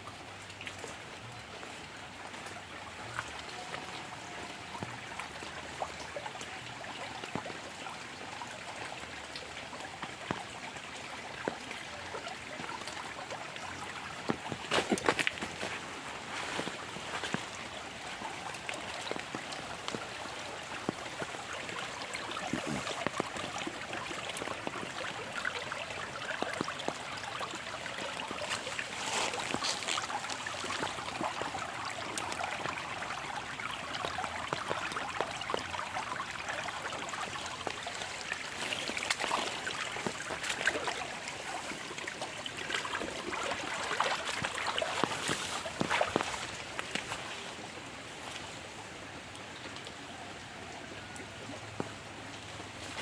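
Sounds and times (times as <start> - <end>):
drips and spatters: 0.0 - 50.0
rain falling: 0.0 - 53.0
water trickling: 0.0 - 53.0.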